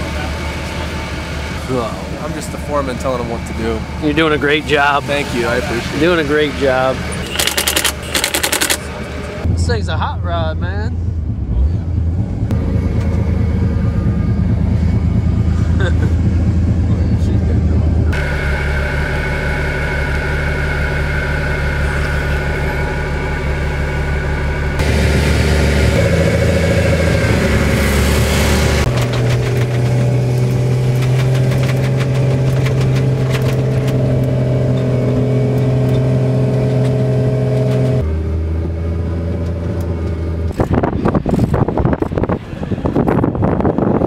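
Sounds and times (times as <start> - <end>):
car engine running inside cab: 0.0 - 44.0.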